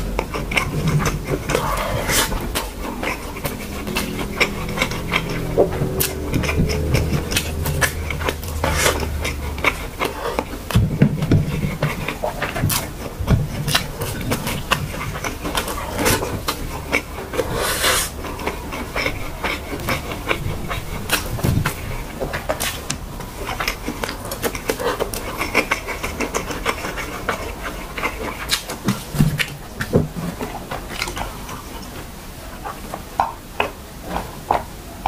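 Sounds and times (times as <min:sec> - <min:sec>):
person chewing rice: 0:00.0 - 0:34.8.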